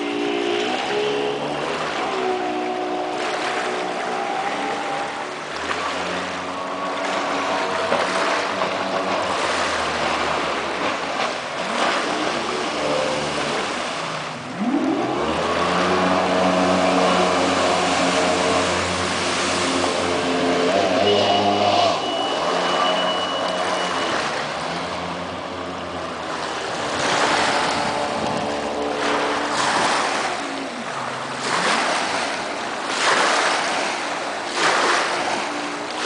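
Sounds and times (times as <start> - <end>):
jet boat engine: 0.0 - 36.0
rushing water: 0.0 - 36.0.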